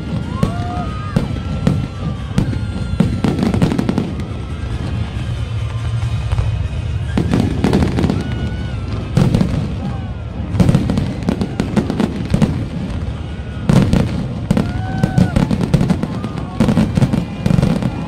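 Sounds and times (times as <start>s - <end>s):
firework crackle: 0.0s - 18.0s.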